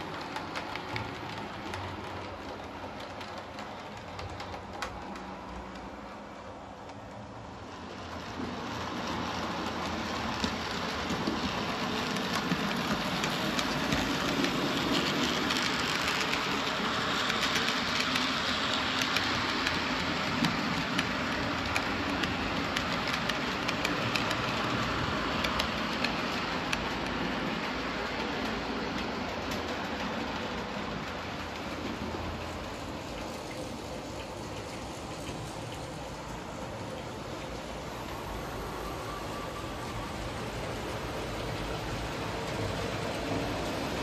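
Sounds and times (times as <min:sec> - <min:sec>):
wheels clicking over rail joints: 0:00.0 - 0:07.1, 0:08.1 - 0:38.4
model train rumbling past: 0:00.0 - 0:44.0.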